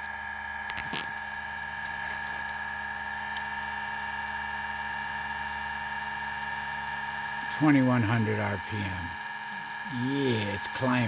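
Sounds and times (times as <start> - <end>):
motor rotor whine: 0.0 - 11.0.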